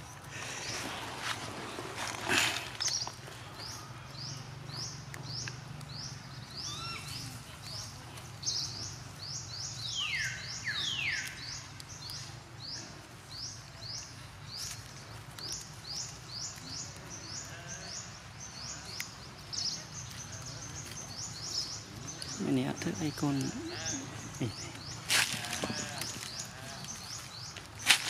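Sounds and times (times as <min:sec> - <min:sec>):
long falling bird calls: 0:00.0 - 0:28.0
bird chirping: 0:00.4 - 0:14.8, 0:15.4 - 0:28.0.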